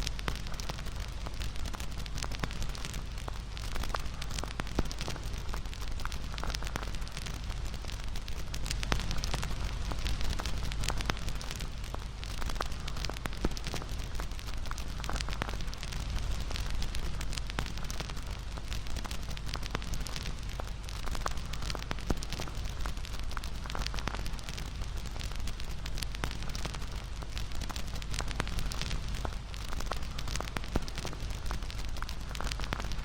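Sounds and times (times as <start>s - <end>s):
bonfire flames rumbling: 0.0s - 33.0s
fire crackling and popping: 0.0s - 33.0s.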